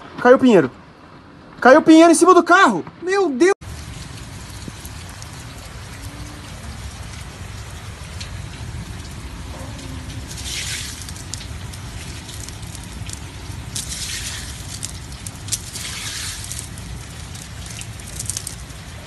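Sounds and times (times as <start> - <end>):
hail and rain falling: 3.6 - 19.0
hailstones clicking: 3.6 - 19.0.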